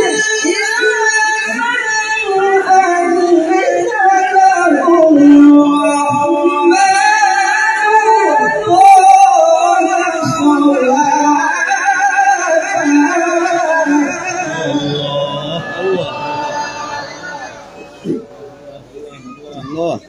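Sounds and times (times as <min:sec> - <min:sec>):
man reciting melodiously through microphone: 0:00.0 - 0:20.0.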